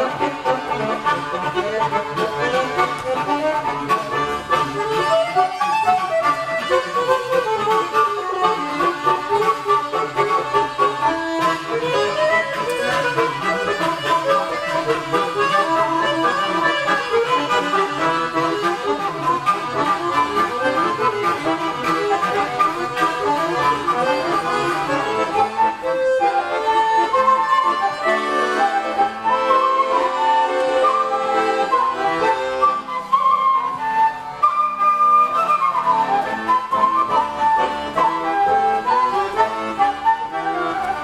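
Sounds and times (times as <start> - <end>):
button accordion chords: 0.0 - 41.0
flute quick melodic runs: 4.5 - 41.0.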